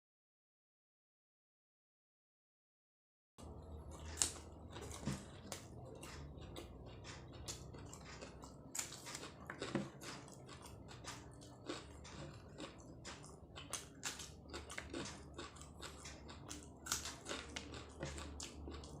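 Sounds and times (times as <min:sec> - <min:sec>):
biting and chewing crunches: 0:03.4 - 0:19.0.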